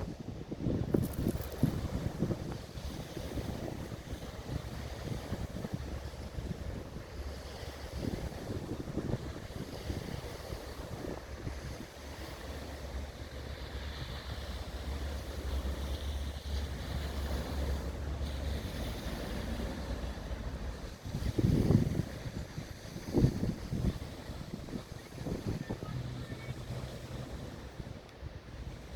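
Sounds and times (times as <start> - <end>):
wind buffeting microphone: 0.0 - 28.9
boat engine drone: 1.6 - 28.9.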